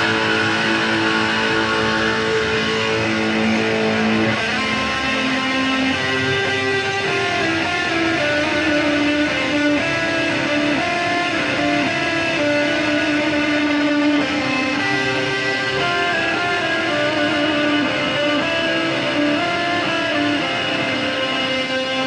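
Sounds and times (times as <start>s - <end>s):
electric guitar slow melody: 0.0s - 22.0s.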